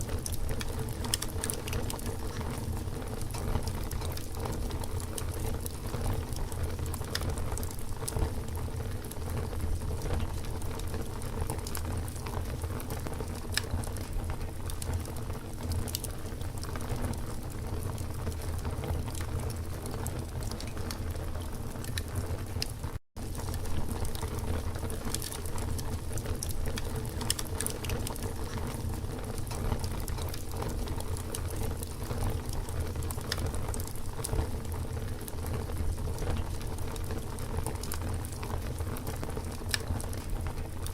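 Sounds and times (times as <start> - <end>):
campfire crackling and popping: 0.0 - 40.9
low rumble of flame: 0.0 - 40.9.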